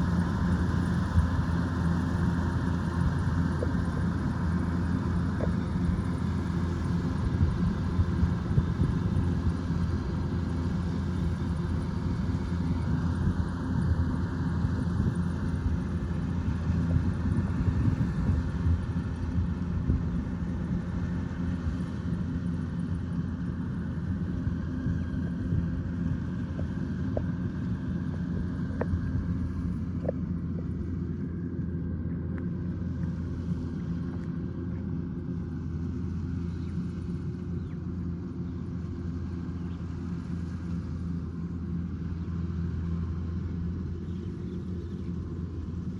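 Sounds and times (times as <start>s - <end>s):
combine harvester droning: 0.0s - 45.9s.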